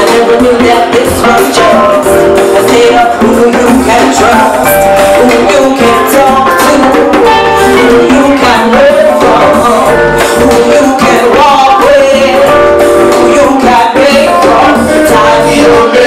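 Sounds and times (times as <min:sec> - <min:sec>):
live band with keyboard: 0:00.0 - 0:16.0
woman singing into microphone: 0:00.0 - 0:16.0.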